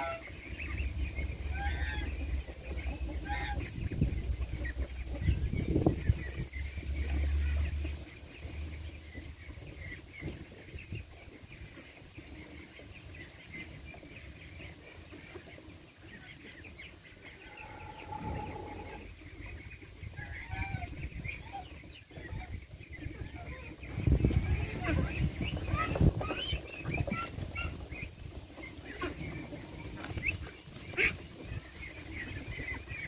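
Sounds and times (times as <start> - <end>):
chickens clucking: 0.0 - 33.0
wind rumble on microphone: 0.7 - 12.0, 17.6 - 33.0.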